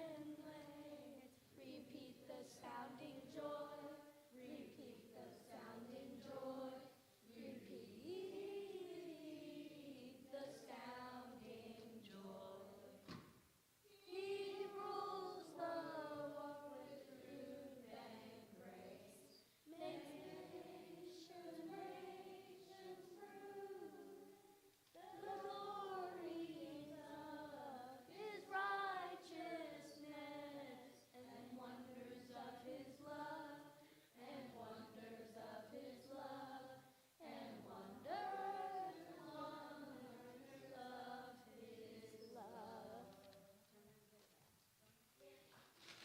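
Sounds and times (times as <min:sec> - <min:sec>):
group of voices singing: 0:00.0 - 0:13.2, 0:13.9 - 0:43.5.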